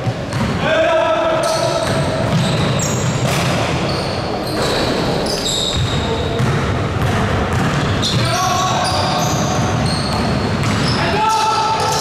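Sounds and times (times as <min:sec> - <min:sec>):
basketball bouncing on court: 0:00.0 - 0:00.7, 0:01.4 - 0:12.0
gym noise: 0:00.0 - 0:12.0.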